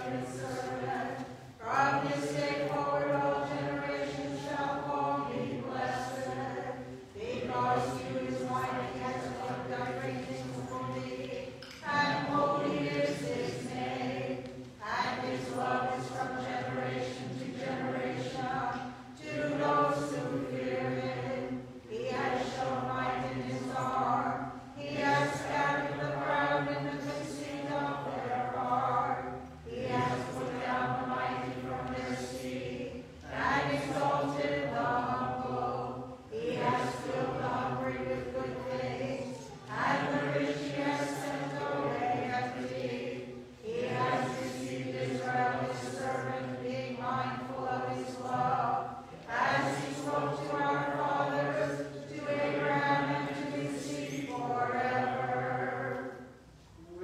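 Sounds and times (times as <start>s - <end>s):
voices singing unaccompanied chant: 0.0s - 56.4s.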